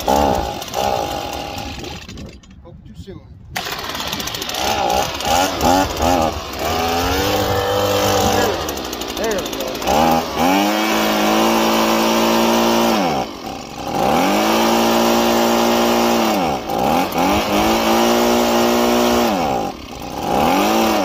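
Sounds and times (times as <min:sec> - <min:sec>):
leaf blower engine bogging down: 0:00.0 - 0:02.6, 0:03.6 - 0:21.0.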